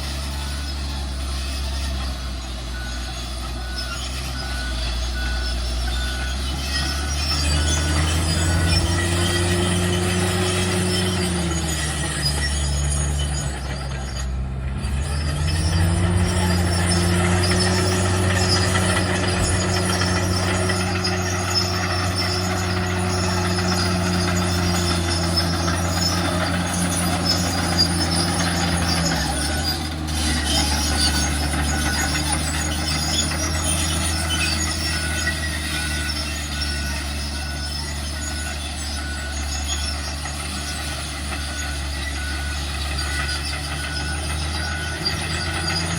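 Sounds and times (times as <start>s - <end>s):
diesel truck engine revving: 0.0s - 45.9s
hiss with metallic squeals: 0.0s - 45.9s.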